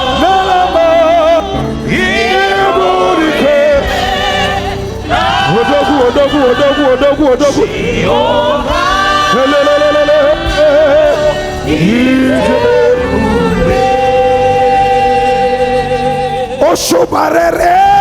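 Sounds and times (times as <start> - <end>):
gospel singing with band: 0.0 - 18.0.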